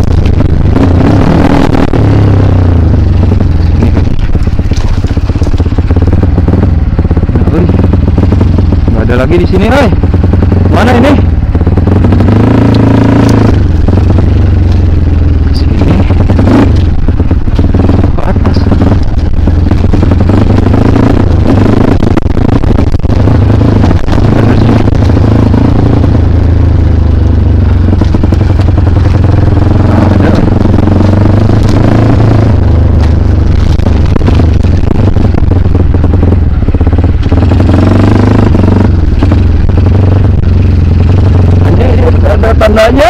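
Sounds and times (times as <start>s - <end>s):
motorcycle clatter: 0.0s - 43.0s
motorcycle engine under load: 0.0s - 43.0s.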